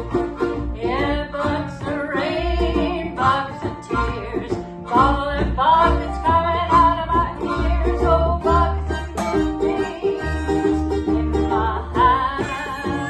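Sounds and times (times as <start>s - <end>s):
bass: 0.0s - 13.0s
plucked strings: 0.0s - 13.0s.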